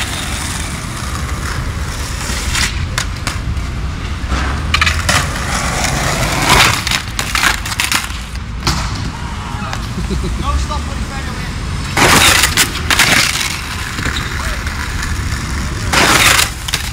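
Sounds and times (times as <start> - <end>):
skateboard clacking on ground: 0.0 - 10.0, 11.9 - 16.9
skateboard wheels rolling on concrete: 0.0 - 16.9.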